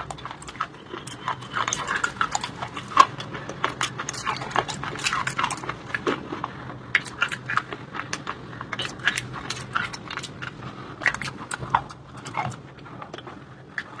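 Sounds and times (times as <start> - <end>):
crunching and chewing stone: 0.0 - 14.0.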